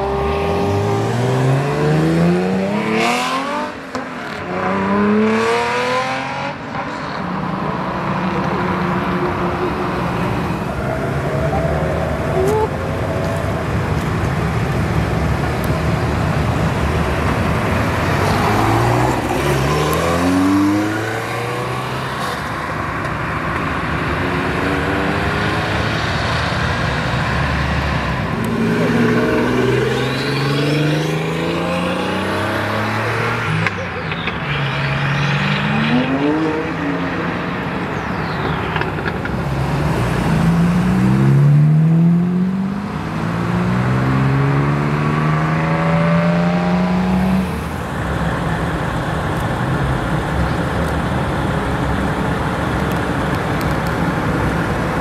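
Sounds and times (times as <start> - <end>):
sports car engines accelerating: 0.0 - 55.0.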